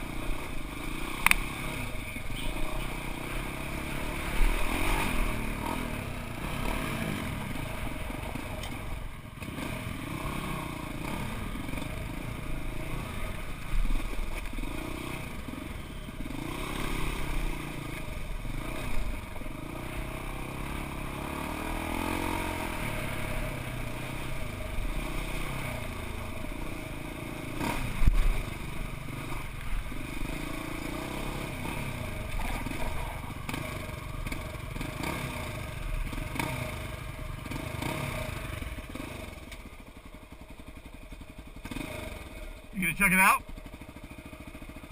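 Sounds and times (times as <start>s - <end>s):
vehicle engine revving: 0.0s - 39.7s, 41.5s - 44.9s.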